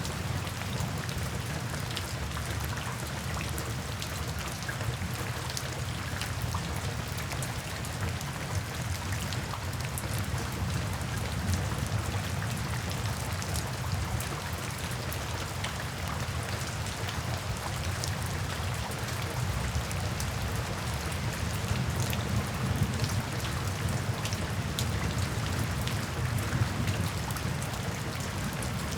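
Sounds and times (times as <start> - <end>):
low rumble of rainfall: 0.0 - 28.9.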